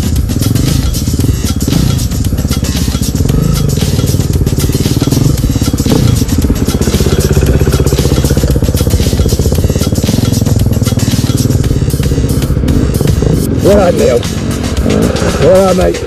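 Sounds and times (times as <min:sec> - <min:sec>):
dirt bike engines running: 0:00.0 - 0:16.0
dirt bike riding past: 0:02.8 - 0:16.0.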